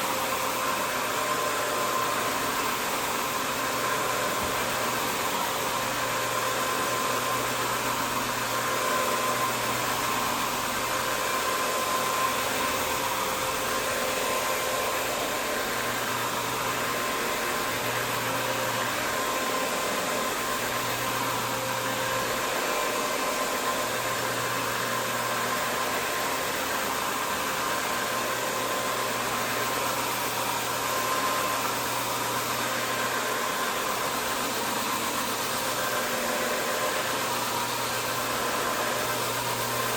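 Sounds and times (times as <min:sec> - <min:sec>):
carpet cleaning machine whine: 0:00.0 - 0:39.9.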